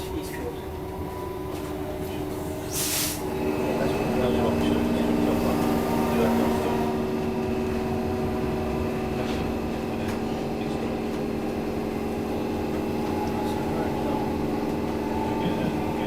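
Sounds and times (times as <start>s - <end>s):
train motors humming: 0.0s - 16.0s.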